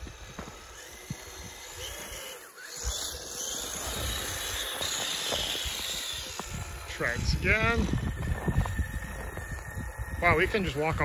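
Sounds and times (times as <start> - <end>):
toy car motor hissing in snow: 0.0 - 11.0.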